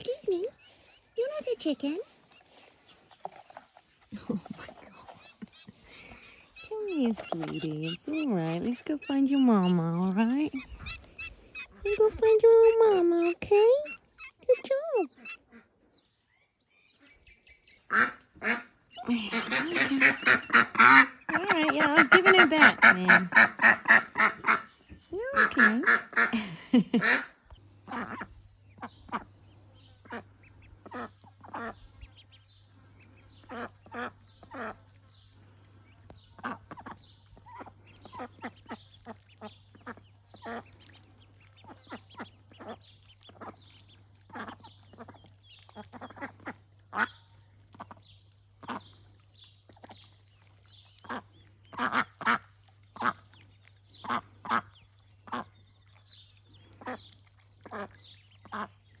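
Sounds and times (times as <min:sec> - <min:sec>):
ducks calling: 0:00.0 - 0:15.9, 0:16.8 - 0:48.0, 0:48.6 - 0:50.1, 0:50.9 - 0:59.0.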